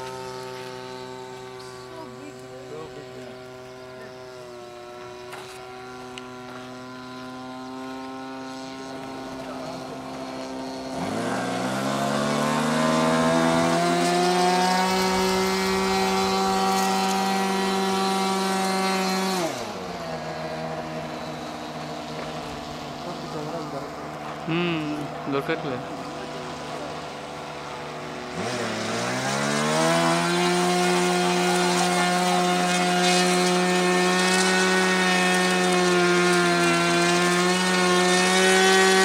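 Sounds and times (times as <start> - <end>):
model plane engine buzzing: 0.0 - 39.0.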